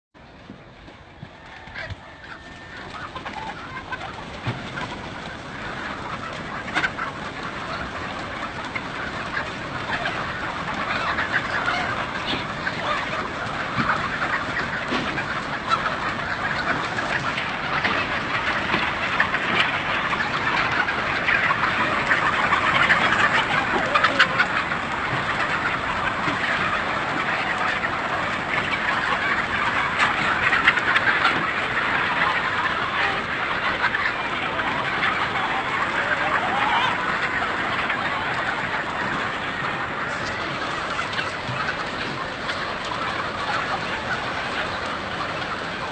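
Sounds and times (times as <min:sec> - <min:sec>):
chickens clucking in chorus: 0:00.2 - 0:45.9.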